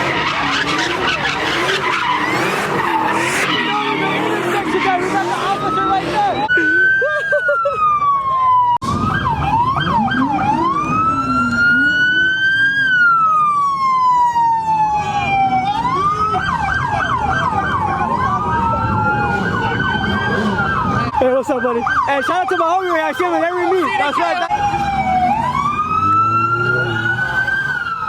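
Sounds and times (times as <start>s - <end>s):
low traffic rumble: 0.0s - 28.0s
police sirens wailing and yelping: 0.0s - 28.0s.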